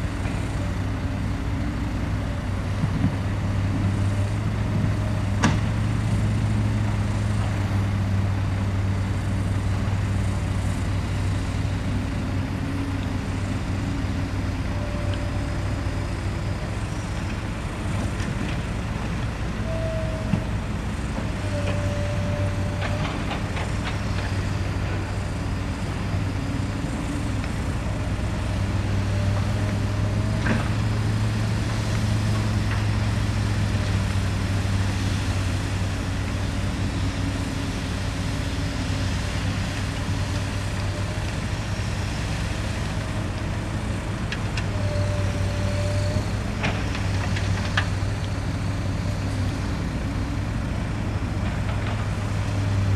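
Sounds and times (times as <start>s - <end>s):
diesel engines humming: 0.0s - 52.9s.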